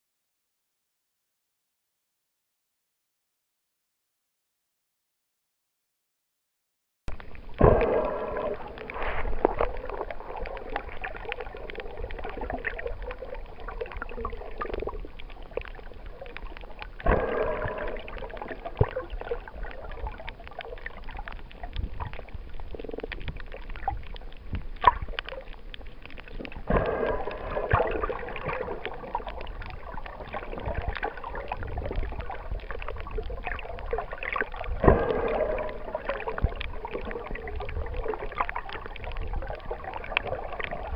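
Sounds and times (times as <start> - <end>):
underwater gurgling hiss: 7.5 - 40.9.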